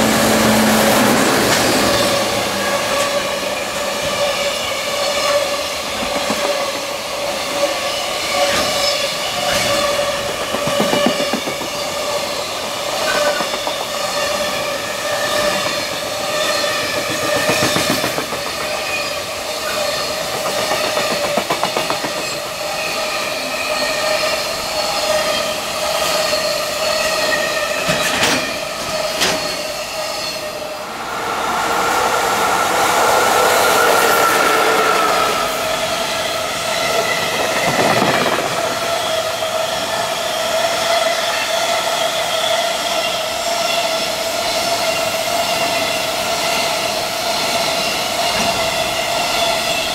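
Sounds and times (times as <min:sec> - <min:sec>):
freight train passing: 0:00.0 - 0:49.9.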